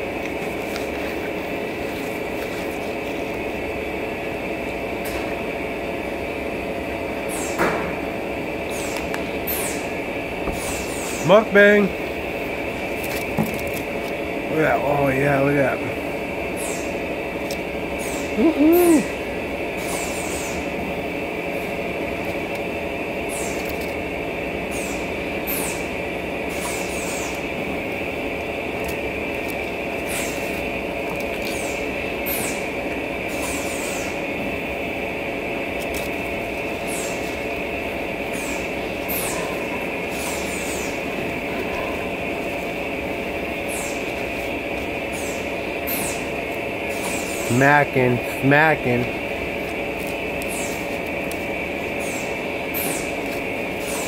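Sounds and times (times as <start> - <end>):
droning room hum: 0.0 - 54.0.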